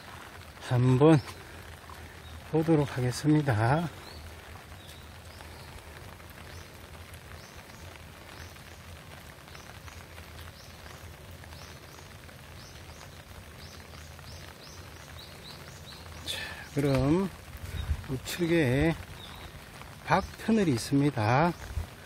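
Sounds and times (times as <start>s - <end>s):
light rain pattering: 0.0s - 22.0s.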